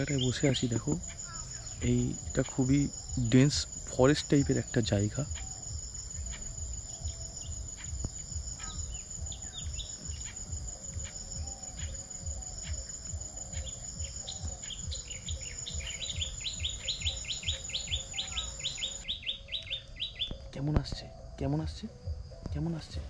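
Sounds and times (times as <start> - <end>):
small bird chirping: 0.0 - 20.5
crickets droning: 0.0 - 23.0.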